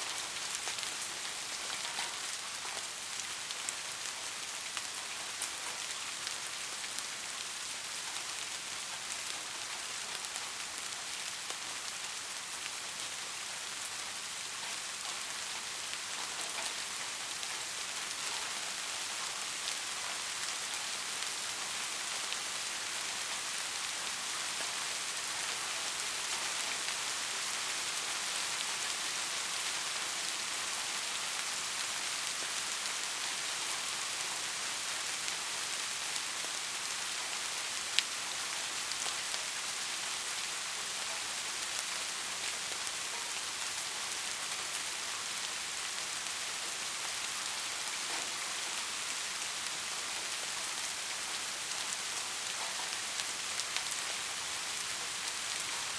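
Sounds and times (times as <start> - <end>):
soft steady rain: 0.0 - 55.9.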